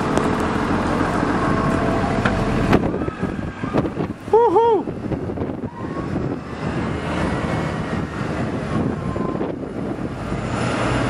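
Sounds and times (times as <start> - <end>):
blizzard wind: 0.0 - 11.0
low engine hum: 0.0 - 11.0
street traffic: 0.0 - 11.0.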